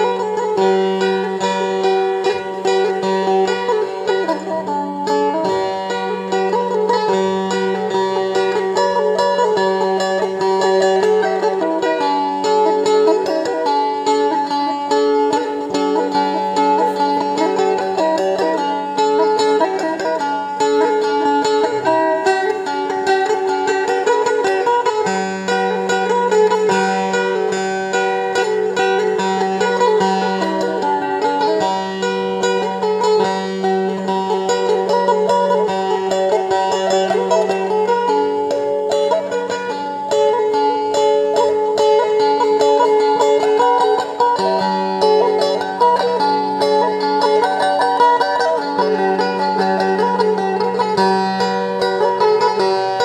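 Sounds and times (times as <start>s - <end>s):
plucked lute melody: 0.0s - 53.0s.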